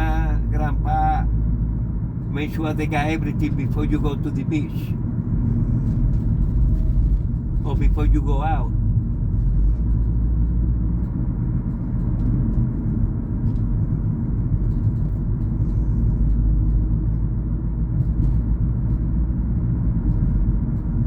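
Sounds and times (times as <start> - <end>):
car engine rumble: 0.0 - 21.0.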